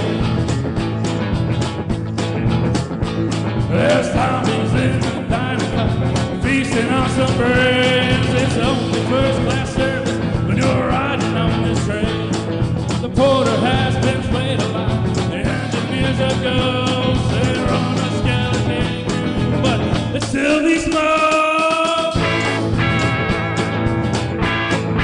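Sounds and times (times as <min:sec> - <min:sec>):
rock and roll band playing: 0:00.0 - 0:25.0.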